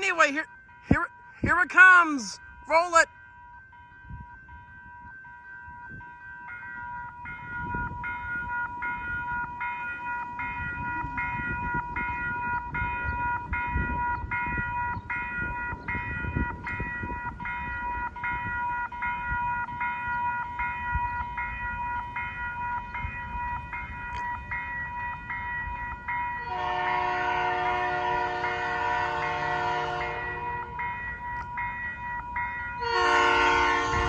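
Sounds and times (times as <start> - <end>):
crossing bell ringing: 0.0 - 34.0
electric train rumbling: 0.0 - 34.0.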